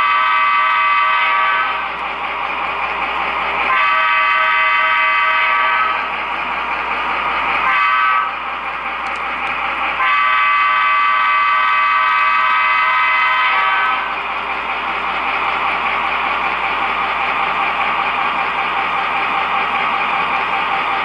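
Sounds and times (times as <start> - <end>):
model train high-pitched whine: 0.0 - 21.0.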